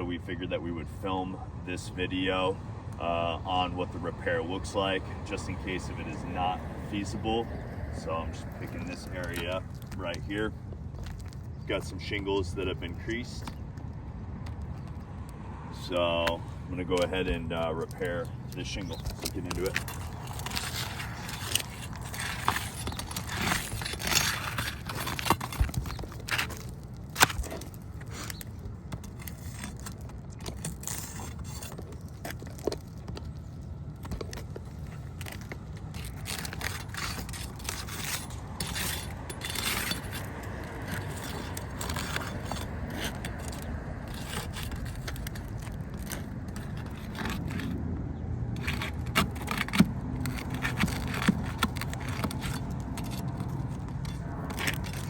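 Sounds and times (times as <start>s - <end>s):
hand tool scraping roof shingles: 3.2s - 13.6s, 15.7s - 47.9s, 48.5s - 55.0s.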